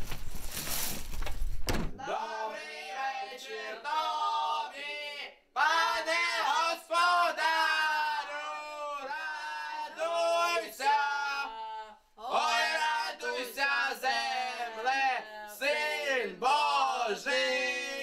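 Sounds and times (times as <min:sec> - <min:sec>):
group singing unaccompanied: 0:02.0 - 0:18.0.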